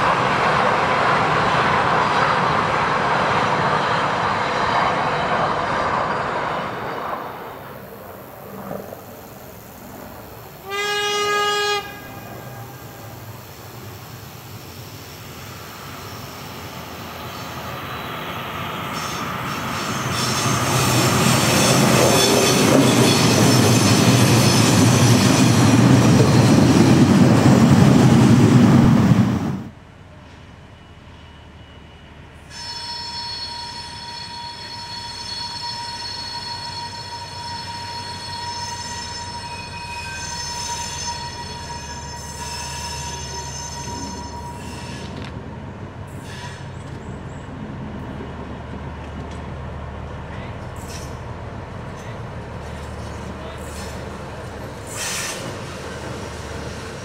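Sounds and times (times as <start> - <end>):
diesel locomotive passing: 0.0 - 57.0
locomotive high whine: 0.0 - 57.0.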